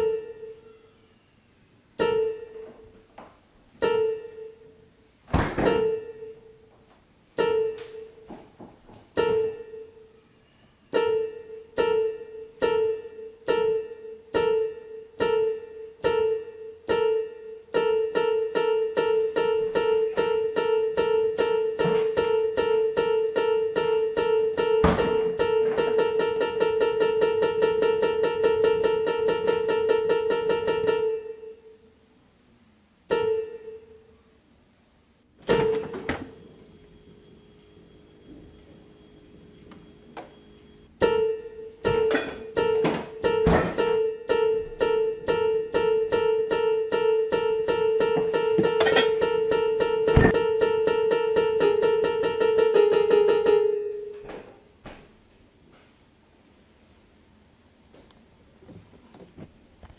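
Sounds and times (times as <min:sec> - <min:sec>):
repeated piano note: 0:00.0 - 0:01.2, 0:02.0 - 0:03.0, 0:03.8 - 0:06.7, 0:07.4 - 0:08.4, 0:09.1 - 0:31.8, 0:33.1 - 0:34.2, 0:35.4 - 0:54.6.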